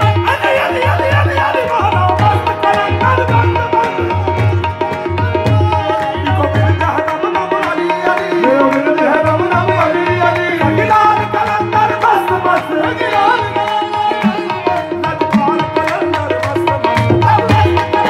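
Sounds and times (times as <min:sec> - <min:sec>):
harmonium drones and melody: 0:00.0 - 0:18.0
tabla drumming: 0:00.0 - 0:18.0.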